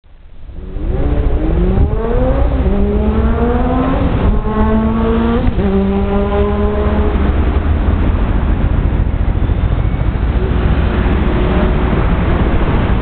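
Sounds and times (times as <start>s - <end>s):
low traffic rumble: 0.0s - 13.0s
vehicle engine accelerating: 0.5s - 13.0s.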